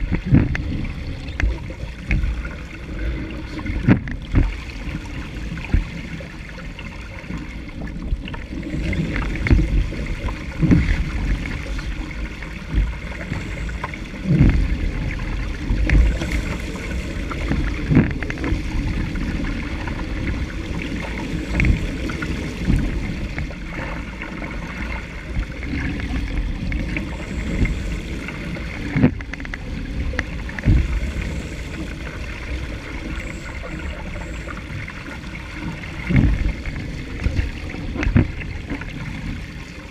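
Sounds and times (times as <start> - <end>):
hull thudding on waves: 0.0 - 39.9
water rushing along hull: 0.0 - 39.9.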